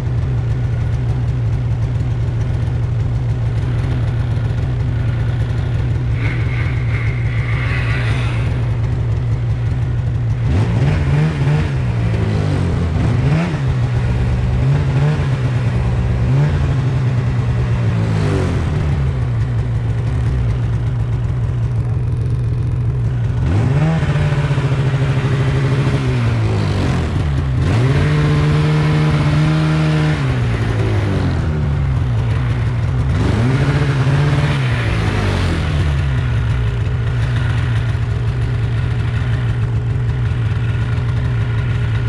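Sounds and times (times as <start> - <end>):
snowmobile engine revving: 0.6 - 42.0.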